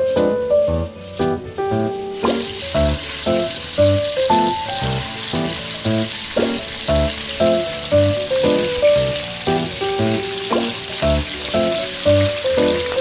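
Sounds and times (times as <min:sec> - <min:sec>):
background music: 0:00.0 - 0:13.0
meat sizzling in oil: 0:01.9 - 0:13.0.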